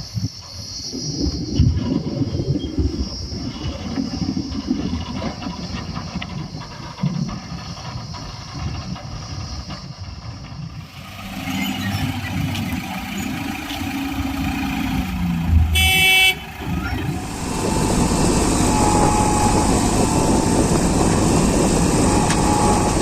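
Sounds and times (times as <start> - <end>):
heavy diesel engine rumble: 3.3 - 23.0.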